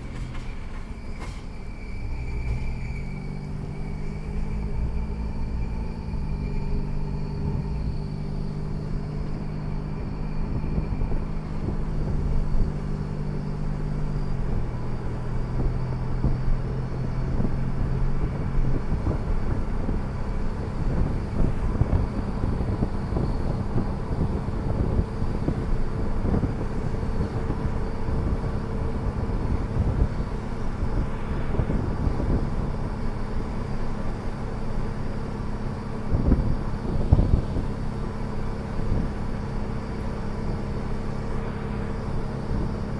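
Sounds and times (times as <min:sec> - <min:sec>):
car drivetrain hum: 0:00.0 - 0:42.9
rough rumble with clunks: 0:00.0 - 0:42.9.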